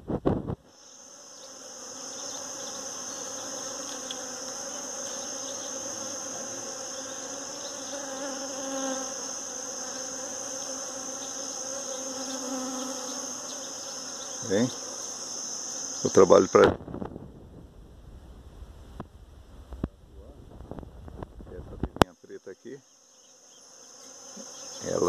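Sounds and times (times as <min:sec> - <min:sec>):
bees buzzing: 0:00.3 - 0:16.7, 0:20.6 - 0:25.0.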